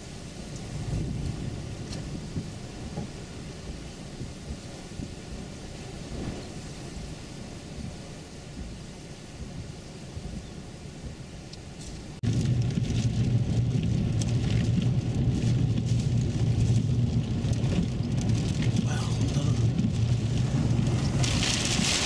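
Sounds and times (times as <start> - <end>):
car engine and tyres rumbling: 0.0 - 22.0
wind buffeting vehicle: 0.0 - 22.0.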